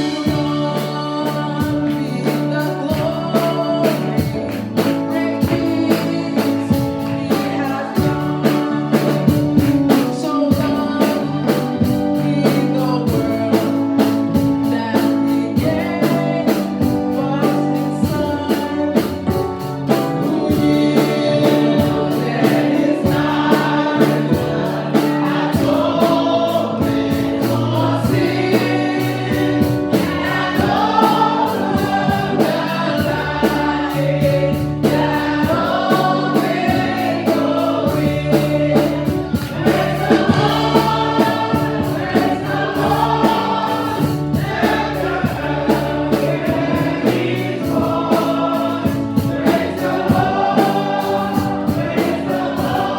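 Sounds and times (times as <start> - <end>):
gospel choir singing: 0.0 - 52.9
instrumental accompaniment with beat: 0.0 - 52.9.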